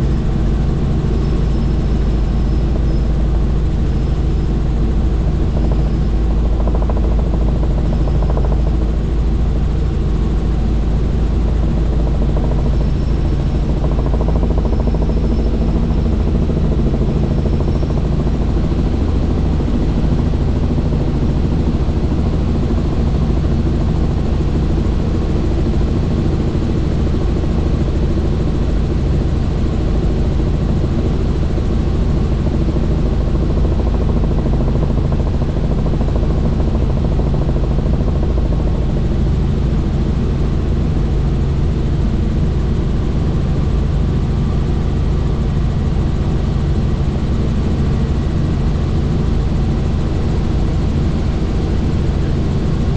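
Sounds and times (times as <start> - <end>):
helicopter rotor and engine: 0.0 - 52.9.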